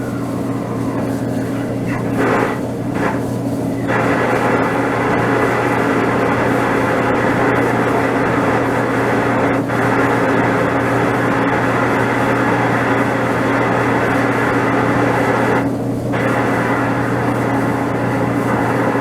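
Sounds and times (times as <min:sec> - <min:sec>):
clothes dryer running: 0:00.0 - 0:19.0.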